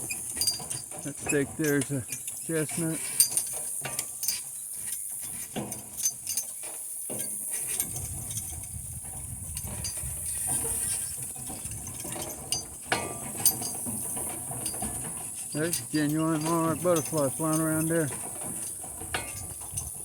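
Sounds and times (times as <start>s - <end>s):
metal harness clinking: 0.0s - 20.0s.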